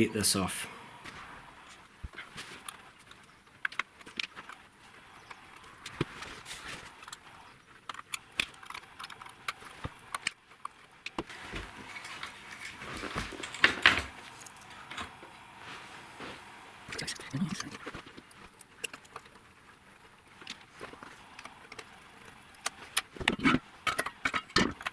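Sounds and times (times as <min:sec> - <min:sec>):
rustling: 0:01.0 - 0:10.0, 0:11.2 - 0:23.6.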